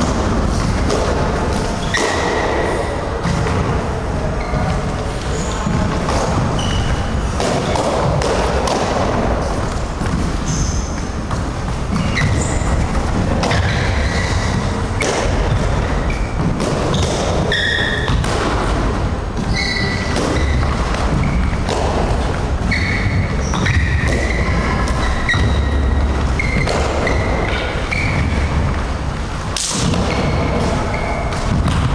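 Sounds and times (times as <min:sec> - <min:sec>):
sneaker squeaks on wooden floor: 0:00.5 - 0:03.7, 0:04.3 - 0:08.2, 0:09.4 - 0:18.2, 0:19.3 - 0:29.1, 0:29.7 - 0:31.9.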